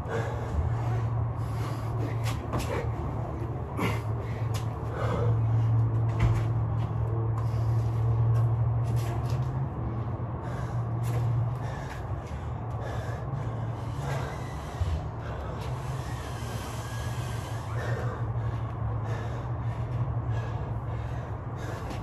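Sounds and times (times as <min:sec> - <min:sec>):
person breathing hard: 0:00.0 - 0:06.1, 0:09.7 - 0:22.0
steady low hum: 0:00.0 - 0:22.0.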